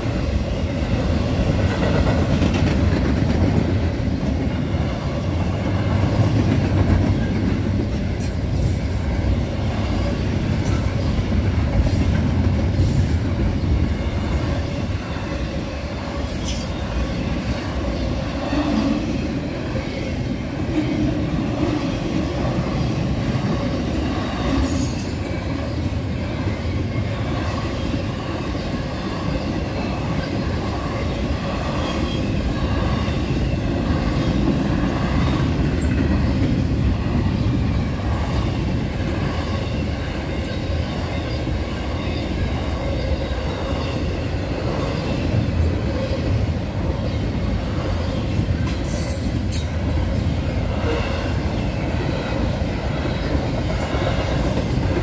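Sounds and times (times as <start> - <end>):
freight train wheels rumbling: 0.0 - 55.0
train cars squealing: 7.1 - 55.0.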